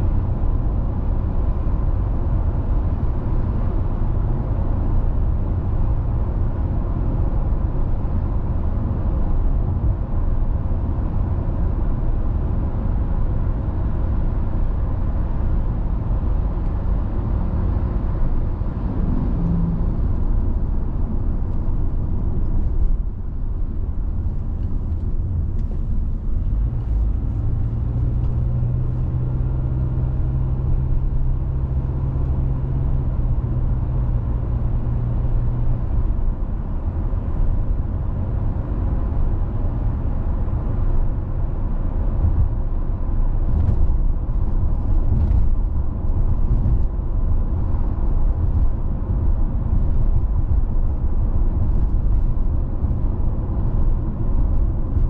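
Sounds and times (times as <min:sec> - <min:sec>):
low engine hum: 0:00.0 - 0:55.0
rumble of tyres and engine: 0:00.0 - 0:55.0.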